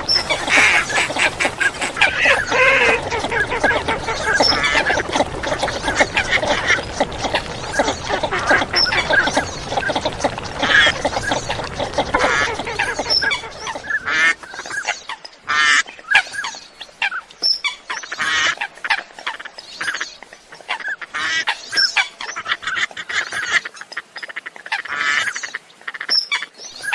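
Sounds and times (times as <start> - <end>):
ducks and water hens calling: 0.0 - 26.9.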